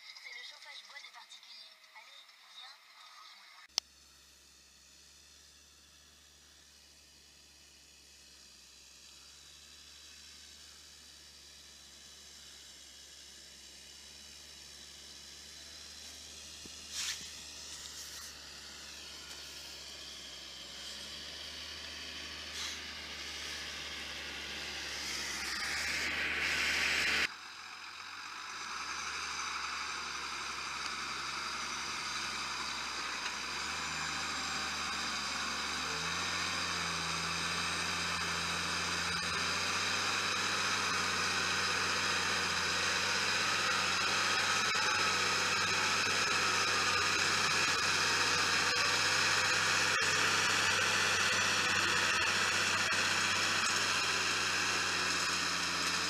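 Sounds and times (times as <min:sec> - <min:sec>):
high engine whine: 0:00.0 - 0:56.0
tractor diesel engine under load: 0:09.0 - 0:56.0.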